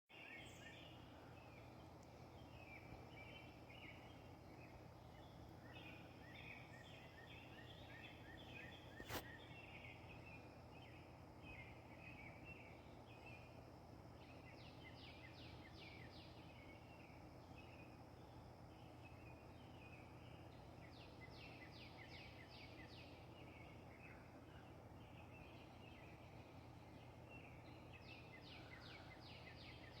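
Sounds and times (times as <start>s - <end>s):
low background noise: 0.1s - 30.0s
songbirds singing: 0.1s - 30.0s.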